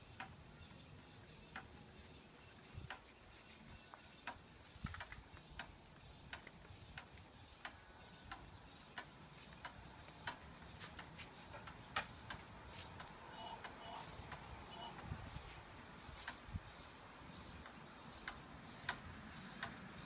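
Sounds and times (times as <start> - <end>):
low steady hiss: 0.0 - 20.0.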